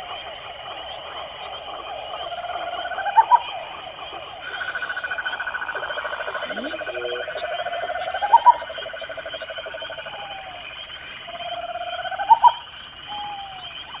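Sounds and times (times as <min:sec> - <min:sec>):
crickets ringing: 0:00.0 - 0:14.0
frogs trilling: 0:00.0 - 0:14.0.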